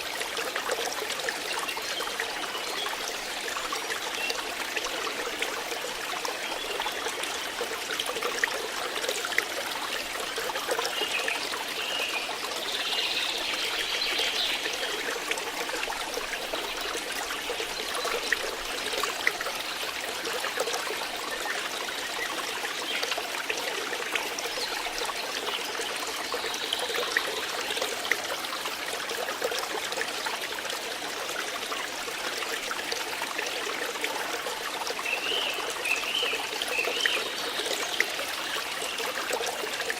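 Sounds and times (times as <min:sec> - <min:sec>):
water flowing and trickling: 0:00.0 - 0:39.9
water splashes and drips: 0:00.0 - 0:39.9.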